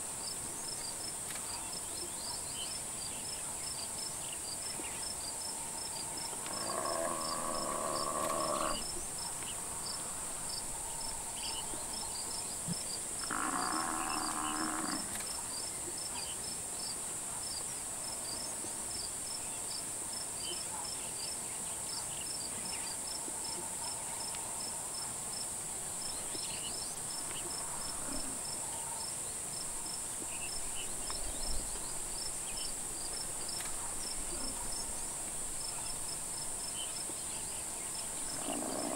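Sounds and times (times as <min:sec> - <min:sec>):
insects buzzing: 0:00.0 - 0:23.0, 0:23.8 - 0:38.9
cricket-like chirping: 0:00.1 - 0:38.9.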